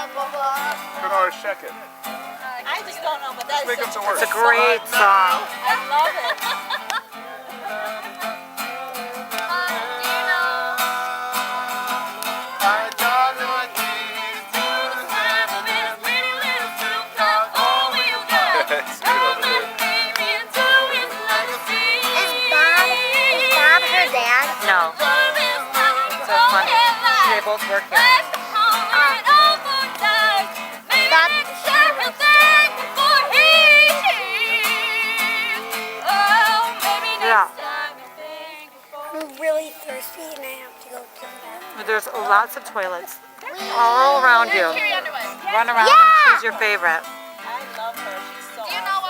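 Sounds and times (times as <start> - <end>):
acoustic guitar strumming: 0.0 - 49.0
people singing: 3.6 - 42.7, 43.4 - 46.7.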